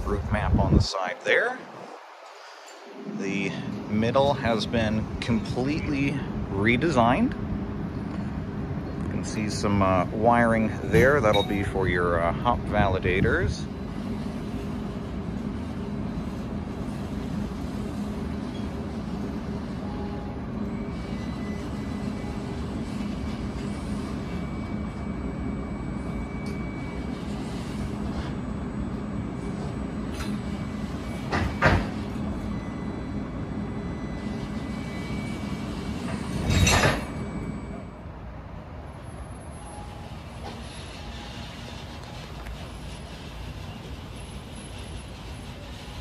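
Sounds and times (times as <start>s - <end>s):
streetcar humming: 0.0s - 46.0s.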